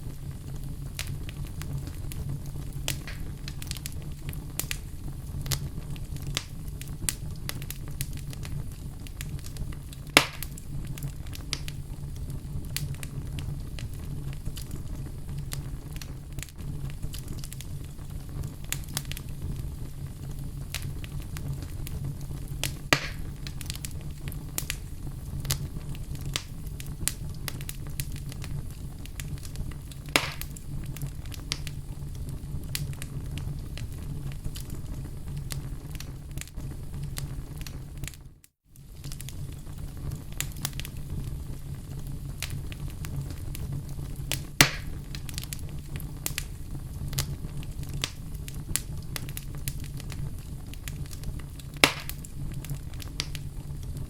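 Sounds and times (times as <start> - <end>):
loud fire pops: 0.0 - 54.0
low rumble of flames: 0.0 - 54.0
small fire crackles: 0.0 - 54.0.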